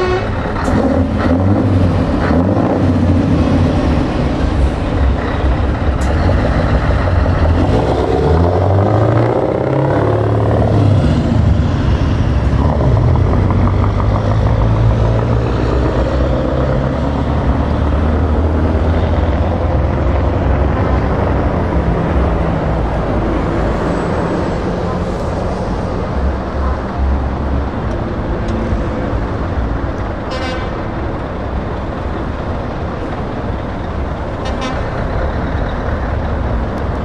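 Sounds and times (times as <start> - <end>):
diesel truck accelerating: 0.0 - 37.0.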